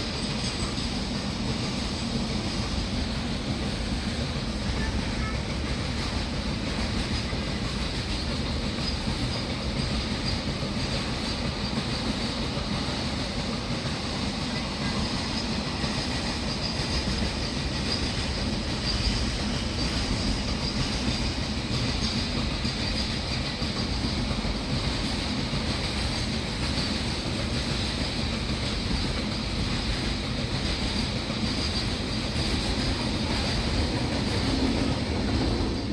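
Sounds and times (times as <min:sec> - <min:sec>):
steel wheels rumbling on rail: 0:00.0 - 0:35.9.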